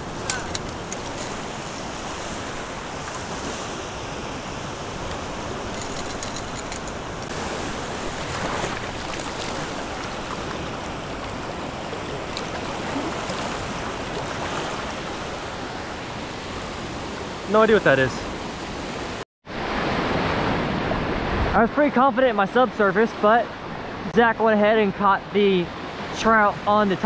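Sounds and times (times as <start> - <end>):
surf breaking in shallow water: 0.0 - 23.2.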